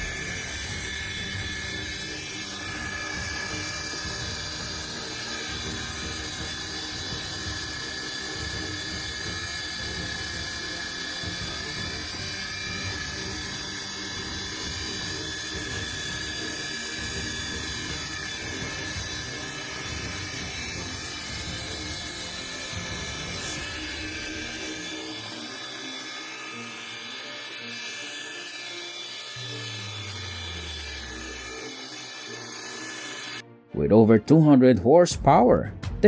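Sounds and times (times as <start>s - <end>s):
heavy machinery whining: 0.0s - 33.4s.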